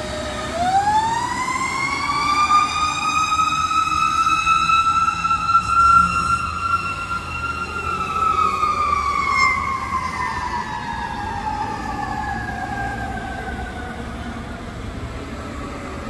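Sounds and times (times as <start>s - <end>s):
mechanical siren winding down: 0.0s - 14.3s.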